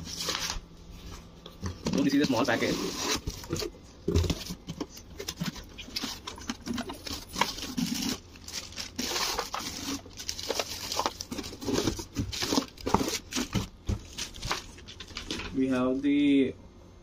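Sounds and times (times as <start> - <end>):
plastic bags crinkling: 2.0 - 15.8.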